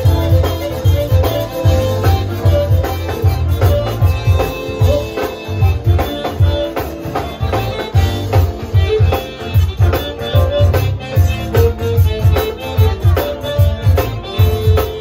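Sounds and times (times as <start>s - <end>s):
accordion: 0.0s - 15.0s
drum kit: 0.0s - 15.0s
guitar: 0.0s - 15.0s.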